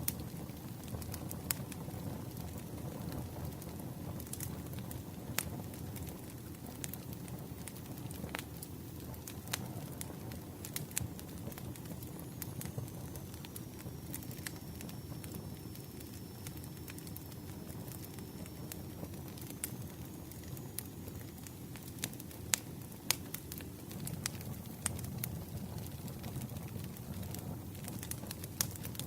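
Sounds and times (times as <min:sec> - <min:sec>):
campfire crackling: 0:00.0 - 0:29.0
pops and snaps of burning wood: 0:00.0 - 0:29.0.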